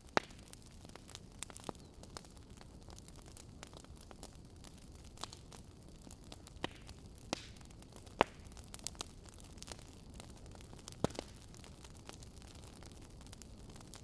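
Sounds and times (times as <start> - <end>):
logs crackling and popping: 0.0 - 14.0
low rush of flame: 0.0 - 14.0.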